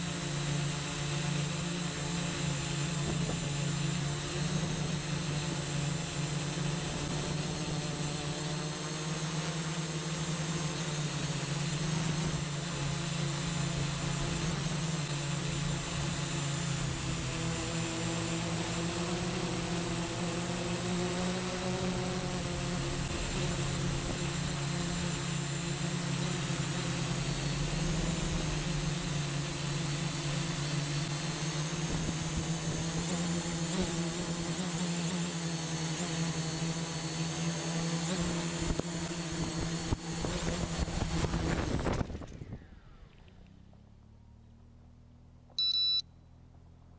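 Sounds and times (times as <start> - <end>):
drone motors buzzing: 0.0 - 43.9
thin high whine: 0.0 - 44.1, 45.6 - 46.2.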